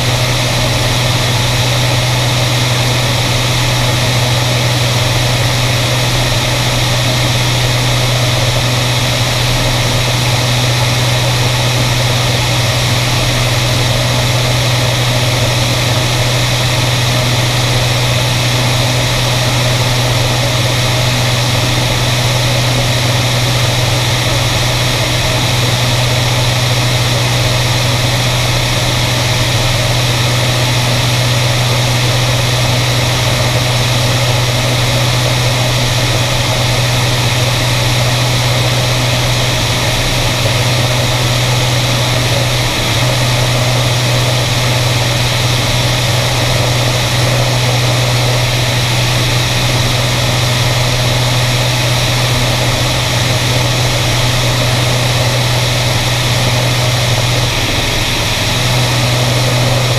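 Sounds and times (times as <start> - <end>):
propeller plane engine drone: 0.0 - 59.9
rush of airflow: 0.1 - 59.9.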